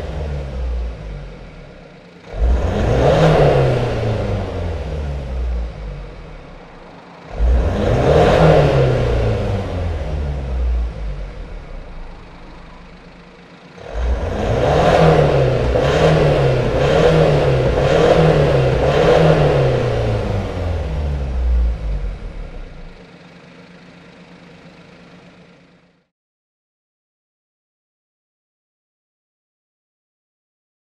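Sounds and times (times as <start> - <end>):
diesel engine revving: 0.0 - 26.1.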